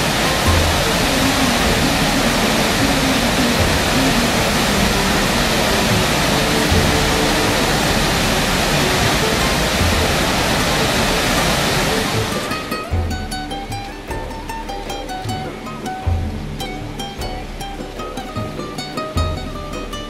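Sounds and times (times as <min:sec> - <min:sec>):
faint music: 0:00.0 - 0:20.0
waterfall rushing: 0:00.0 - 0:20.0.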